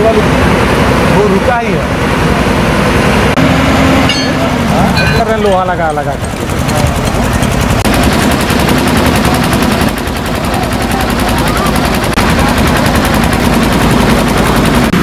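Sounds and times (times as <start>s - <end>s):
heavy construction machinery rattling: 0.0s - 15.0s.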